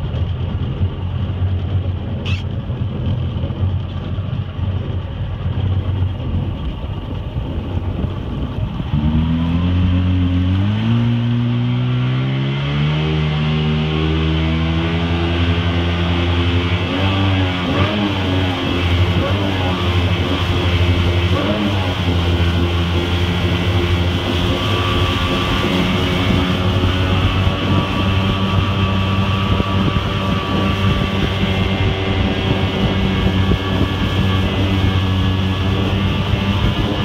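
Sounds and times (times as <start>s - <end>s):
boat motor running: 0.0s - 37.0s
steady rushing noise: 0.0s - 37.0s.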